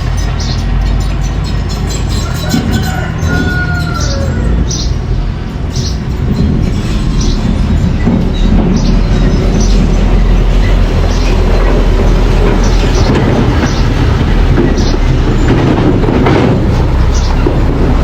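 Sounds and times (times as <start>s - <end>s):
bulldozer engine rumble: 0.0s - 18.0s
track squeaks: 0.0s - 18.0s.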